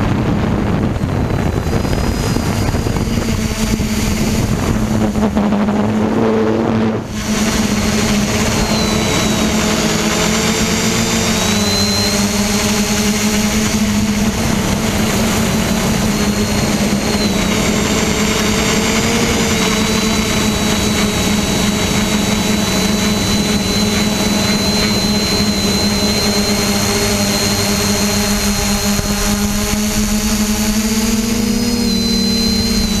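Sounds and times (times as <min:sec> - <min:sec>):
drone motors buzzing whine: 0:00.0 - 0:33.0
rushing air: 0:00.0 - 0:33.0.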